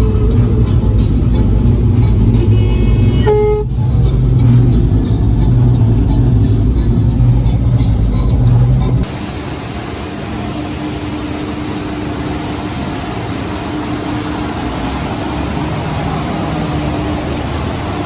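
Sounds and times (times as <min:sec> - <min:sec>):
dryer machine running: 0:00.0 - 0:18.0.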